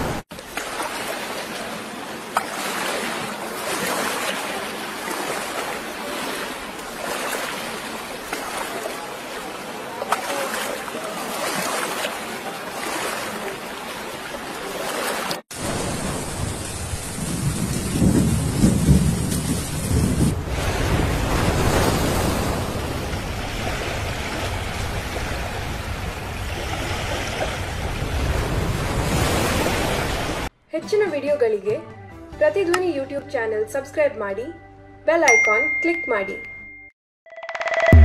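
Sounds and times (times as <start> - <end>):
wind and sea hiss: 0.0 - 30.5.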